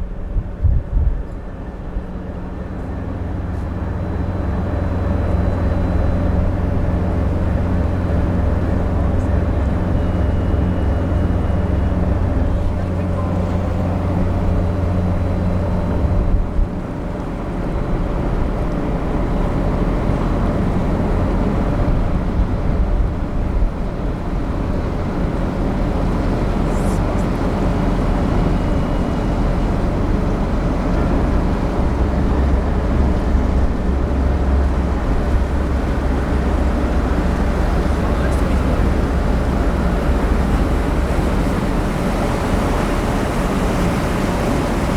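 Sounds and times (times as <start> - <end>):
continuous rushing noise: 0.0 - 44.9
ship engines droning: 0.0 - 44.9.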